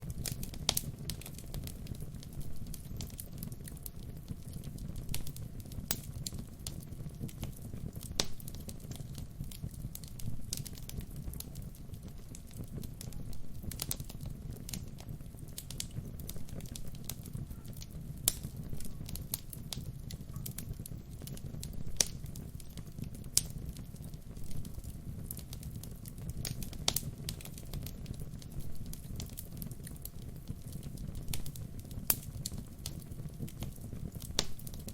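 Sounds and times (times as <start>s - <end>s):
low rumble of flames: 0.0s - 34.9s
wood fire crackling and popping: 0.0s - 34.9s.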